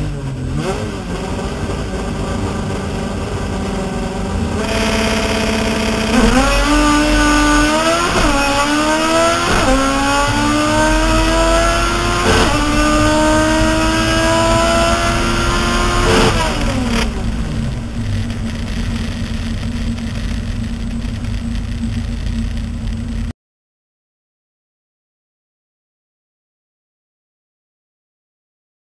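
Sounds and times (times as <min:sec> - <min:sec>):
race car engine revving: 0:00.0 - 0:23.3.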